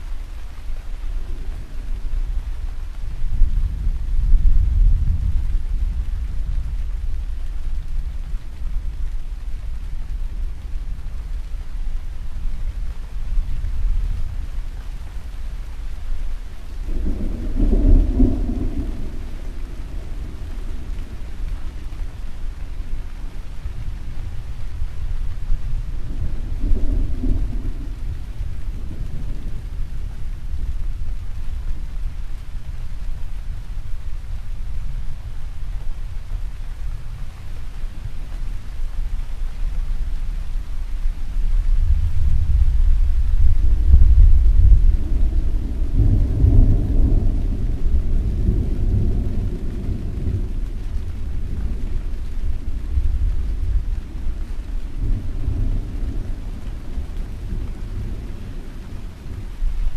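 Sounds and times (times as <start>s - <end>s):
rolling thunder rumble: 0.0s - 59.9s
steady rain: 0.0s - 59.9s.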